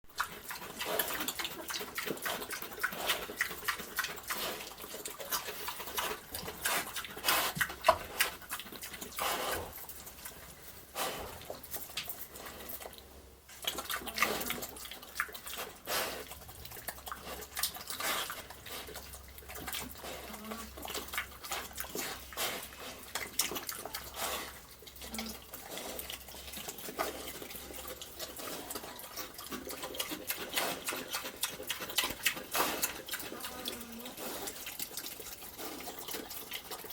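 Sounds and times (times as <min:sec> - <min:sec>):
pig eating wet slop: 0:00.0 - 0:36.9.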